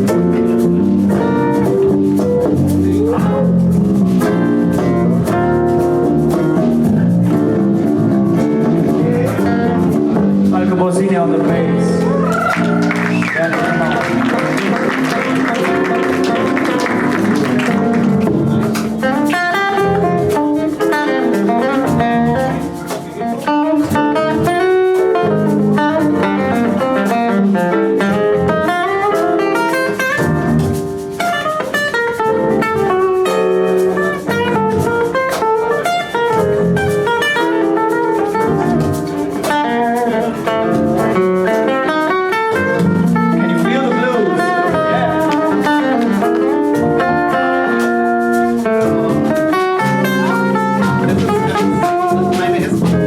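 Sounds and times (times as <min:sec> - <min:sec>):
live band music: 0:00.0 - 0:53.0.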